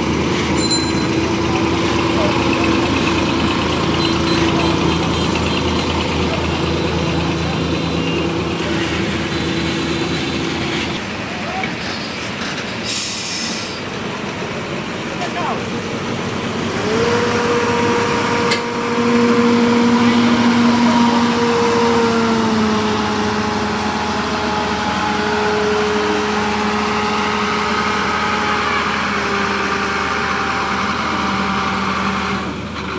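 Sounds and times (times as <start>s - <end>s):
paving machine engine whining: 0.0s - 32.9s.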